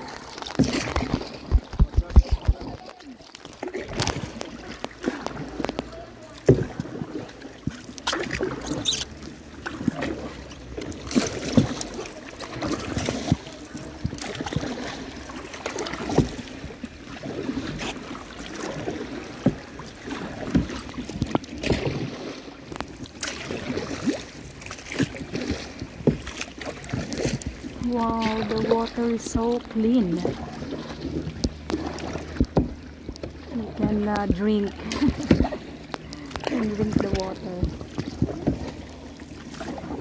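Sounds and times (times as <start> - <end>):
kayak paddle splashing: 0.0 - 40.0
paddle knocking: 0.0 - 40.0
water washing against hull: 0.0 - 40.0.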